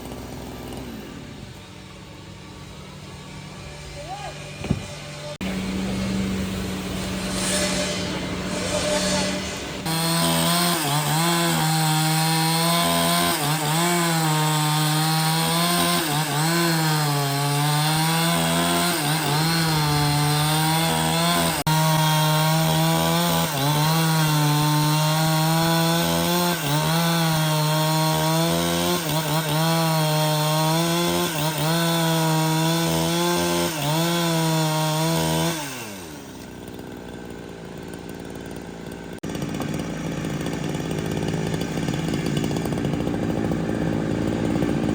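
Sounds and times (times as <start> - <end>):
chainsaw cutting wood: 0.0 - 1.8, 3.2 - 44.9.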